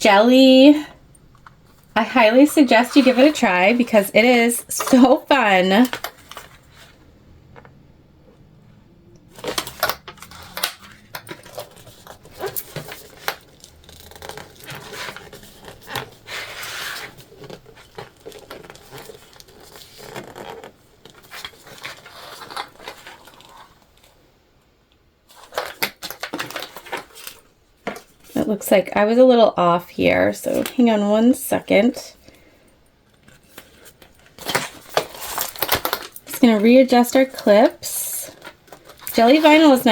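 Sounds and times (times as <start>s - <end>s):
vinyl rustling: 0.0s - 7.8s, 9.3s - 24.2s, 25.2s - 28.7s, 30.1s - 39.9s.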